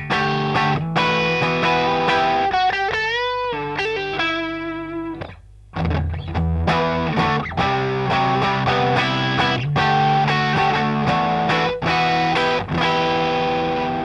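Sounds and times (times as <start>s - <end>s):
overdriven electric guitar: 0.0s - 14.0s.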